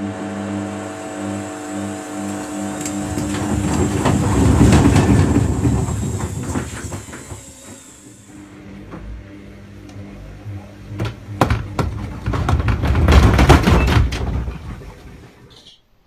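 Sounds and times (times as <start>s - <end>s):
washing drum rumbling and knocking: 0.0s - 15.5s
washing machine motor hum: 0.0s - 15.5s.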